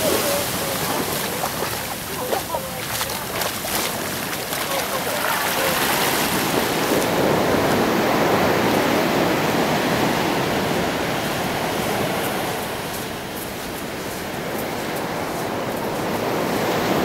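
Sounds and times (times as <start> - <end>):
ocean surf on sand beach: 0.0 - 17.0.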